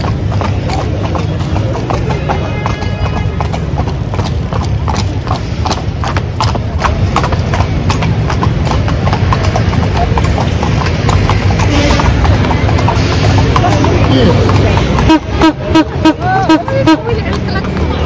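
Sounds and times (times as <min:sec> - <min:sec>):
carriage rumbling: 0:00.0 - 0:16.0
horse hooves clip-clopping: 0:00.0 - 0:18.0.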